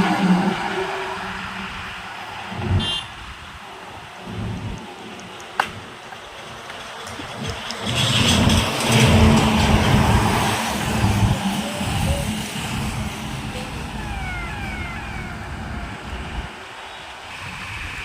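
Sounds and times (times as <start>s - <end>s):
truck passing on highway: 0.0s - 18.0s.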